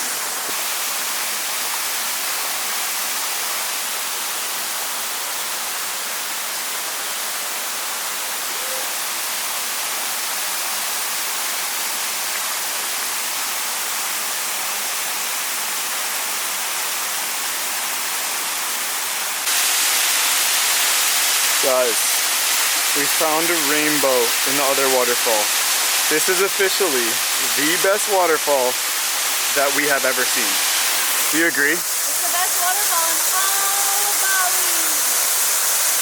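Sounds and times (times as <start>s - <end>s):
waterfall rushing: 0.0s - 13.2s, 16.4s - 36.0s.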